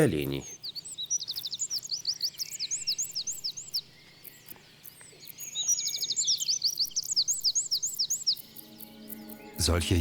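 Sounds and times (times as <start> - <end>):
songbird singing with trill: 0.0 - 10.0.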